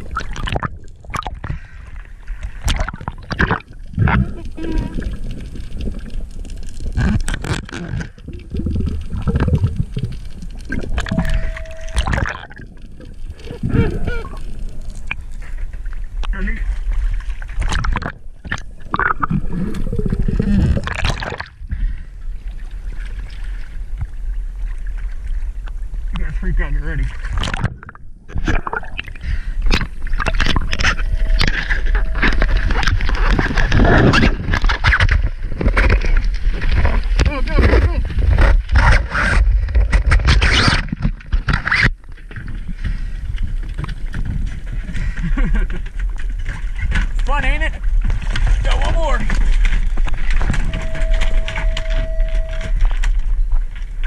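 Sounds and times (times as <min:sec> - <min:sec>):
underwater bubbling and gurgling: 0:00.0 - 0:54.0
water splashing and sloshing: 0:00.0 - 0:54.0.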